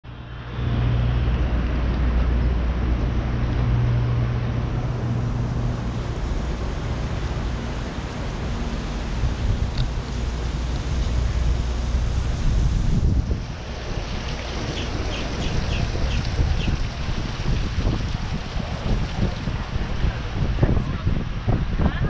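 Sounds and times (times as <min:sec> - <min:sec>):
low city hum and rumble: 0:00.0 - 0:22.0.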